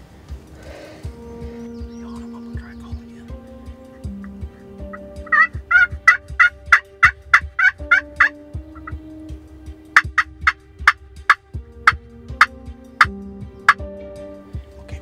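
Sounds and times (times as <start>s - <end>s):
wild turkeys calling: 0.6s - 13.8s.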